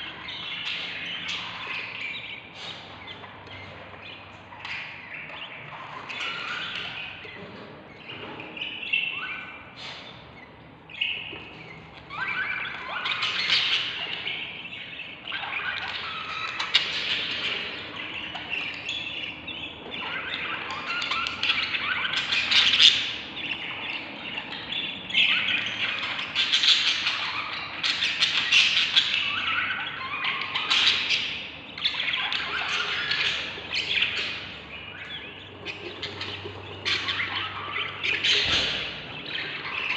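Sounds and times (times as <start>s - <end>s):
budgerigar chicks begging calls: 0.0s - 39.9s.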